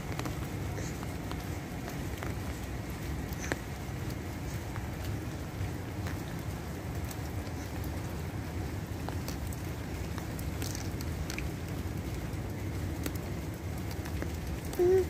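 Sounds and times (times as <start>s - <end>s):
rain falling: 0.0s - 15.0s
raindrop ticks: 0.0s - 15.0s.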